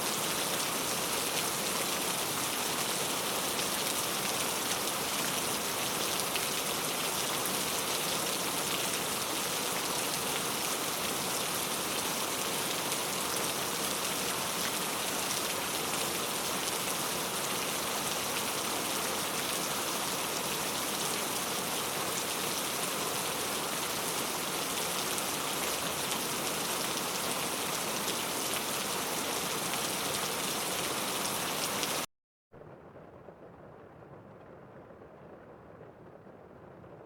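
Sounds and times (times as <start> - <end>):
steady rain falling: 0.0 - 32.1.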